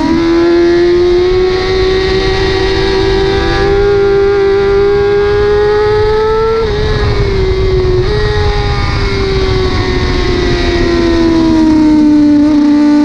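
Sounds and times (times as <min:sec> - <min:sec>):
motorcycle engine at high revs: 0:00.0 - 0:13.0
wind rush: 0:00.0 - 0:13.0.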